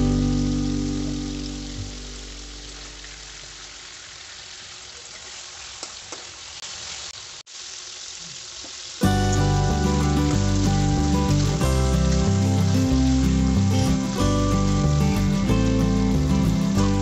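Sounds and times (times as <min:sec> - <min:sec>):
meat sizzling in oil: 0:00.0 - 0:17.0.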